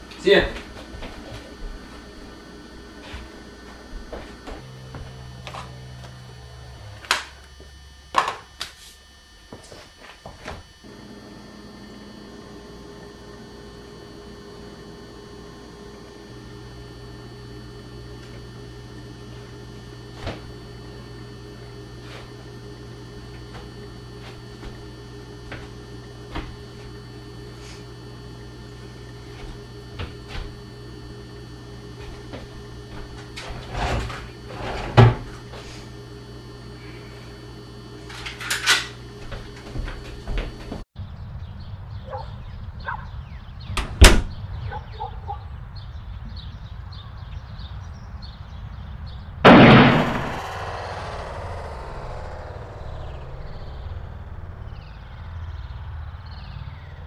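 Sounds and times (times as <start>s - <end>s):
low electrical hum: 0.0s - 42.0s, 42.6s - 57.0s.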